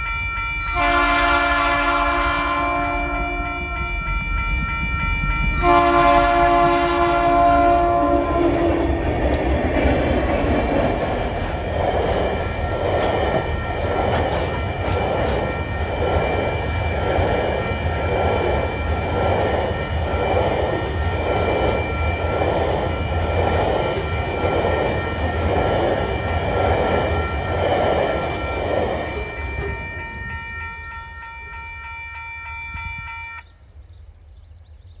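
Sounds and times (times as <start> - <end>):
train wagons rumbling past: 0.0 - 33.4
level-crossing bell ringing: 0.0 - 33.5.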